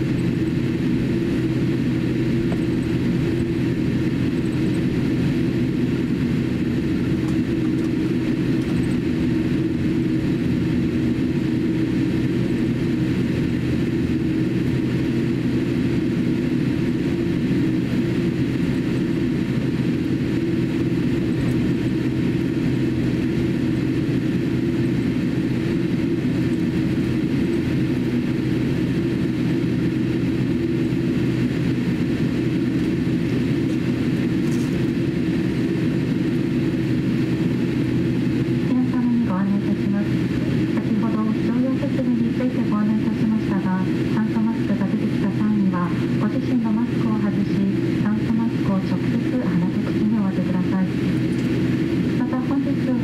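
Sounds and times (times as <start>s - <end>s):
airliner cabin engine hum: 0.0s - 53.0s.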